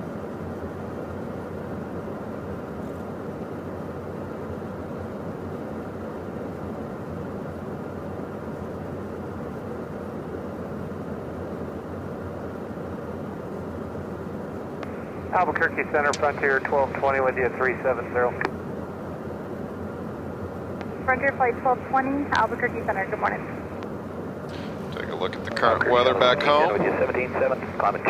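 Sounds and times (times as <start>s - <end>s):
jet cockpit airflow and engine noise: 0.0s - 28.0s.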